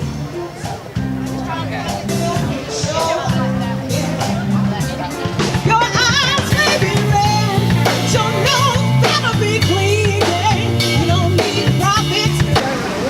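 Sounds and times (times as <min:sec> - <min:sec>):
bass notes: 0:00.0 - 0:13.0
drums: 0:00.0 - 0:13.0
person singing with vibrato: 0:01.5 - 0:13.0.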